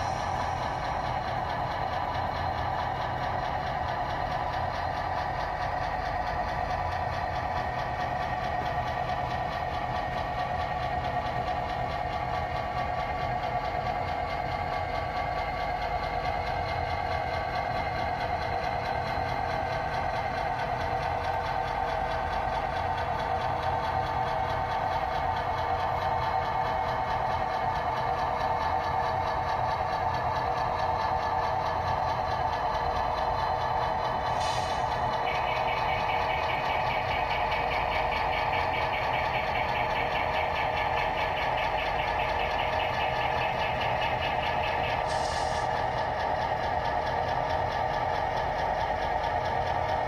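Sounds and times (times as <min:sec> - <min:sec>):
model locomotive engine sound: 0:00.0 - 0:50.0.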